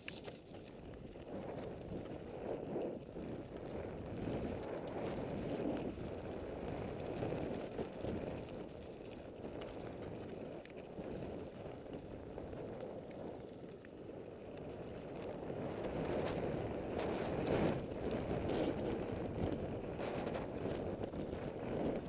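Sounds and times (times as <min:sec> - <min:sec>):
faint crunching on dirt trail: 0:00.0 - 0:22.0
wind rush on microphone: 0:00.0 - 0:22.0.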